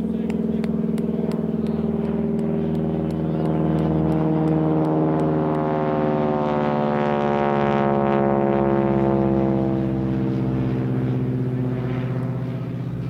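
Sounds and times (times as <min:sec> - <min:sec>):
engine running with pulsing note: 0:00.0 - 0:13.0.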